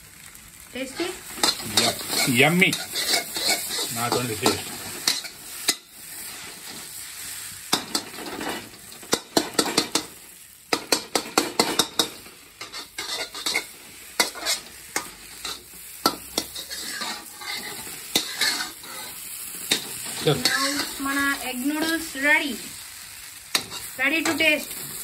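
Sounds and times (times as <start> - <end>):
food sizzling: 0.0 - 25.0
metal spatula scraping a wok: 0.9 - 10.2, 10.8 - 22.4, 23.5 - 25.0.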